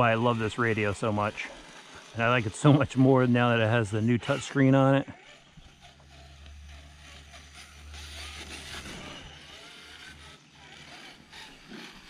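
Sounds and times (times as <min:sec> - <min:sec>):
electric motor whine: 0:00.0 - 0:12.0
low drivetrain rumble: 0:00.0 - 0:12.0.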